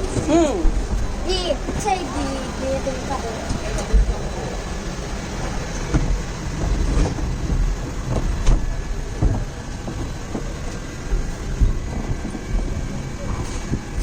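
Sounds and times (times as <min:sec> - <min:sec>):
cable car cabin rumbling: 0:00.0 - 0:14.0.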